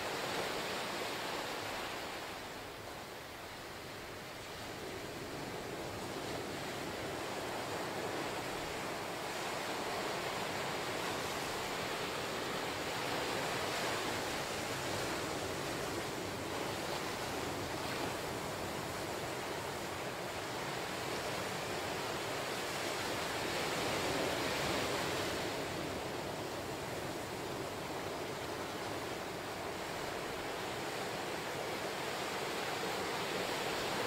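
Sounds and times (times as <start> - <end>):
small waves breaking on beach: 0.0 - 34.0.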